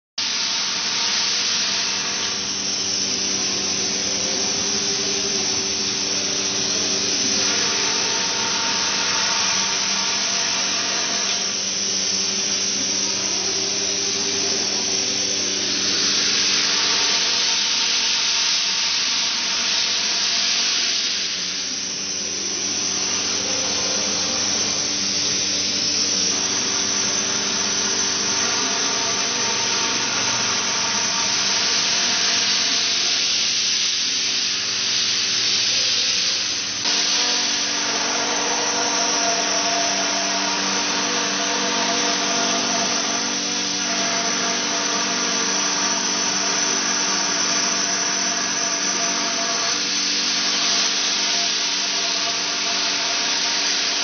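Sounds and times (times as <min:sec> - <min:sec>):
router spindle whining: 0:00.2 - 0:54.0
tool hissing through foam: 0:00.2 - 0:54.0.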